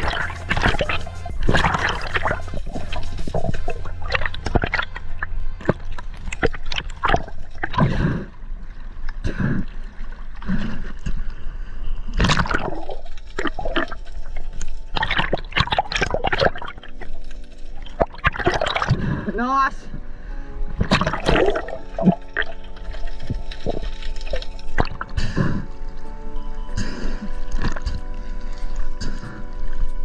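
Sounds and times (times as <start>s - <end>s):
background music: 0.0s - 7.6s, 12.4s - 30.0s
water sloshing and gurgling: 0.0s - 30.0s.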